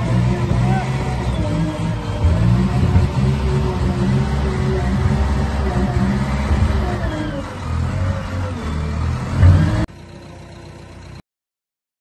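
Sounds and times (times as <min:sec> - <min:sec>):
diesel engine running under load: 0:00.0 - 0:11.2.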